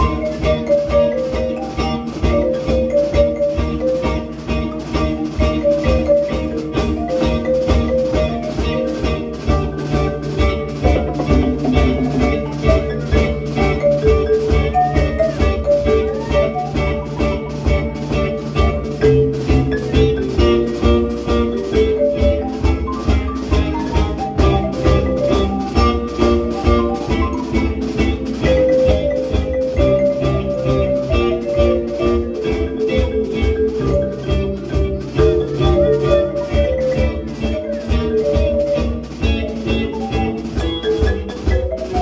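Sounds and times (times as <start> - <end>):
electric guitar: 0.0 - 41.9
drum kit beat: 0.0 - 42.0
marimba runs: 0.0 - 42.0.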